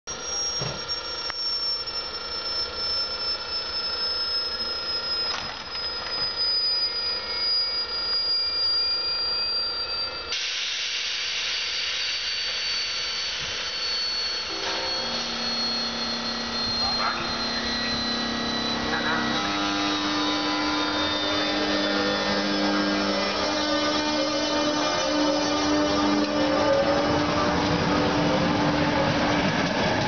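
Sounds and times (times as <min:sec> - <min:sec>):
low hum: 0:00.1 - 0:29.6
blower noise: 0:00.1 - 0:30.0
electric locomotive whine: 0:00.1 - 0:30.0.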